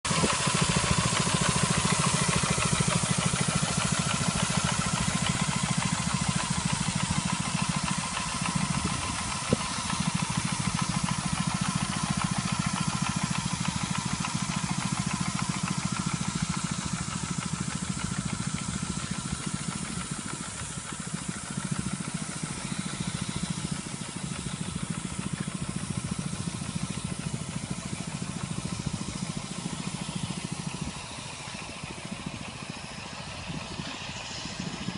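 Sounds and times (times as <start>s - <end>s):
line-marking machine engine running: 0.0s - 34.9s
paint spray hiss: 0.1s - 34.9s.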